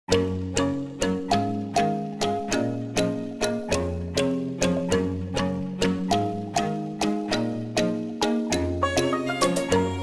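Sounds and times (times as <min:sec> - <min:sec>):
plucked string melody: 0:00.1 - 0:10.0.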